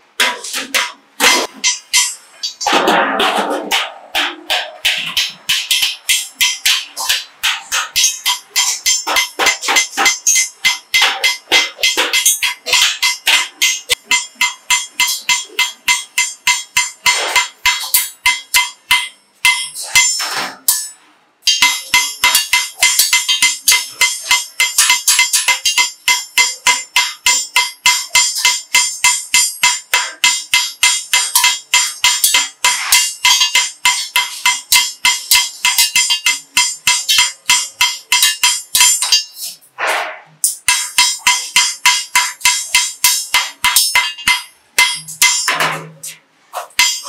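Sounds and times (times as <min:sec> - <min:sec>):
hammers striking metal buckets: 0:00.0 - 0:47.0
hammer on steel hoop: 0:00.2 - 0:47.0.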